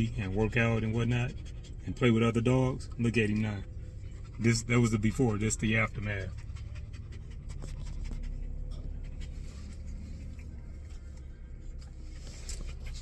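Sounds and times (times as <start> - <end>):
dog panting fast: 0.0 - 10.5.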